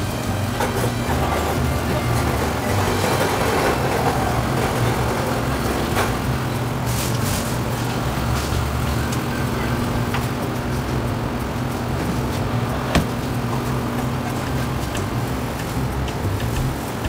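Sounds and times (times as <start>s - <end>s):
refrigerator hum and rumble: 0.0s - 17.0s.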